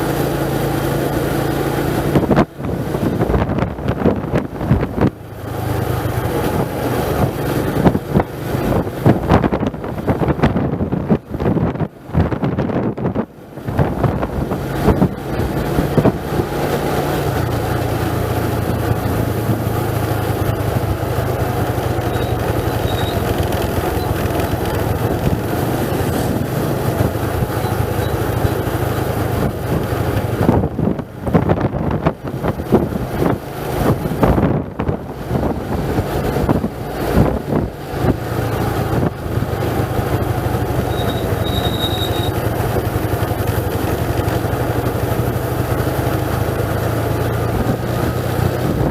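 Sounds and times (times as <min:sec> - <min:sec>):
constant rushing noise: 0:00.0 - 0:48.9
vehicle engine running: 0:00.0 - 0:48.9
wind buffeting the microphone: 0:02.0 - 0:41.5, 0:42.5 - 0:48.9.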